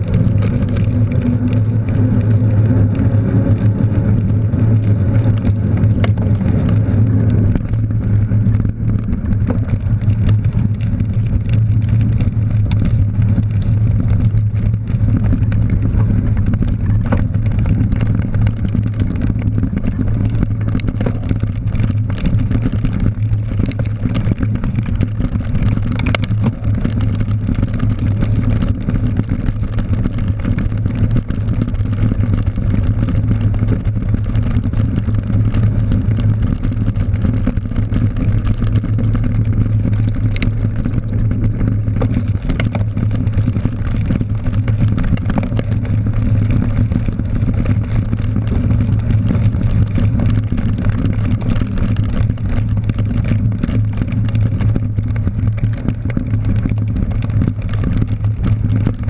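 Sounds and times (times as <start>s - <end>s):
bike tyres clicking and rattling: 0.0s - 59.0s
wind rush and rumble: 0.0s - 59.0s.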